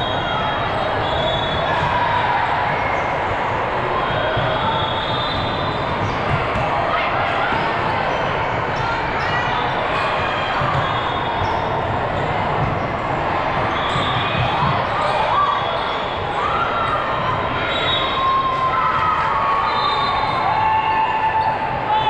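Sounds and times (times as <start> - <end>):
many distant voices: 0.0 - 22.0.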